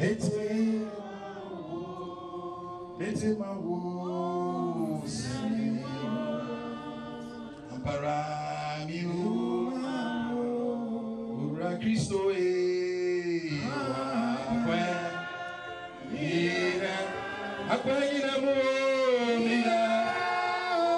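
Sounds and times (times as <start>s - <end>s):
group singing slow worship song: 0.0s - 20.9s.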